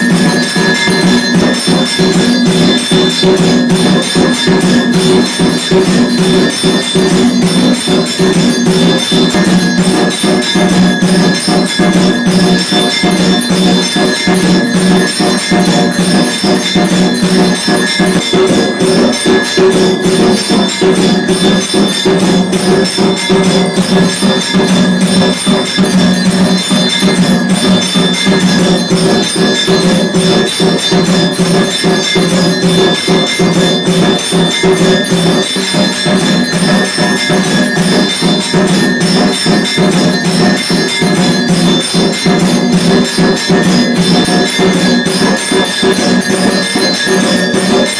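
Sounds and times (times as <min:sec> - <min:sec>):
jingling metal percussion: 0:00.0 - 0:47.9
temple bells ringing: 0:00.0 - 0:47.9.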